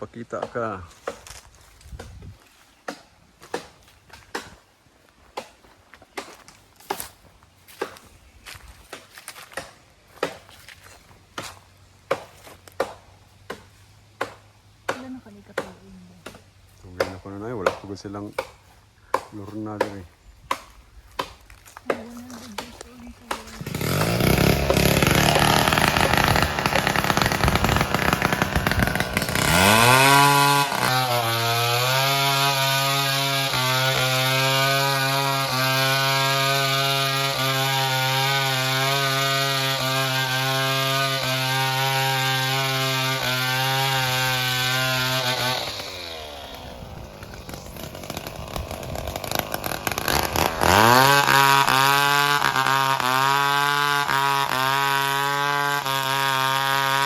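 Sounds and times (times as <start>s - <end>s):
chainsaw cutting wood: 0.1s - 57.0s.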